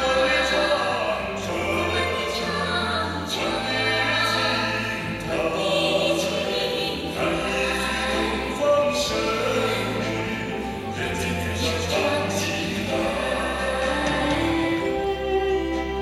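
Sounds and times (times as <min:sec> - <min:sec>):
voices singing: 0:00.0 - 0:16.0.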